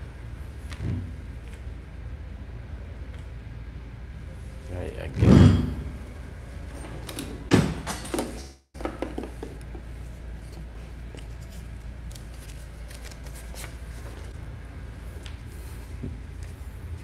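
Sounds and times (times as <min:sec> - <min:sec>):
steady room hum: 0:00.0 - 0:17.0.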